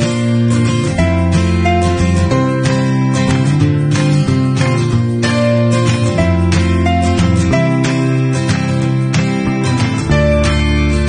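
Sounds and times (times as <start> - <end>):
plucked strummed guitar music: 0.0 - 11.0.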